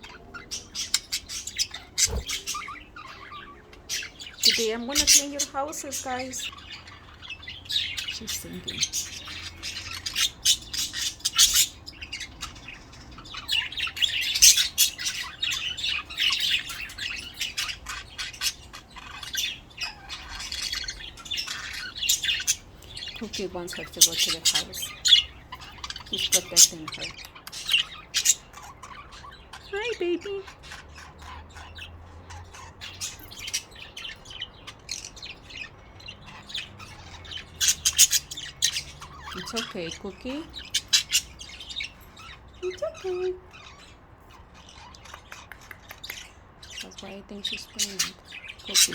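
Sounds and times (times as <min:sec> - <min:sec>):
budgerigars chirping and warbling: 0:00.0 - 0:48.9.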